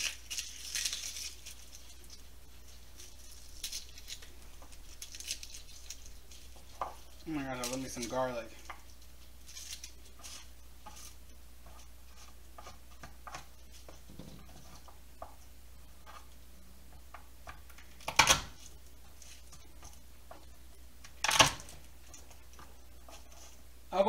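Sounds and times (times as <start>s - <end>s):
garlic skins crackling: 0.0s - 24.0s.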